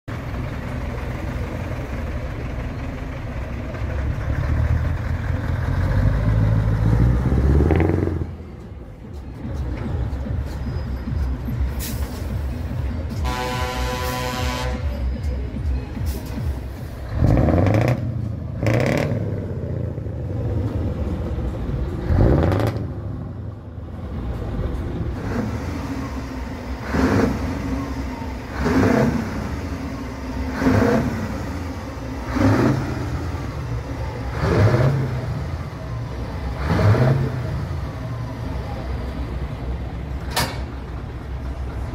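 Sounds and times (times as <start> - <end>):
truck diesel engine revving: 0.1 - 8.6, 9.4 - 41.9.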